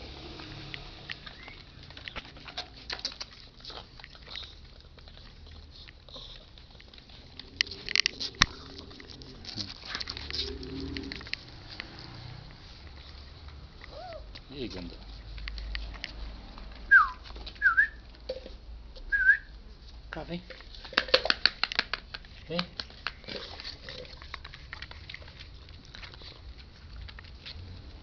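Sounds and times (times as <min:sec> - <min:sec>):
puppy claws clicking on mat: 0:00.2 - 0:17.6, 0:20.5 - 0:28.0.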